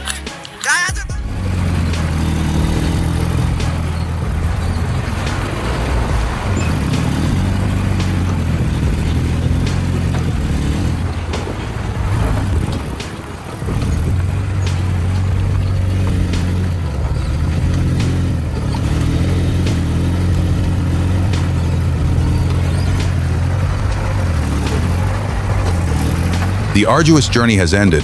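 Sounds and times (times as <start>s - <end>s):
truck engine humming: 0.0s - 28.0s.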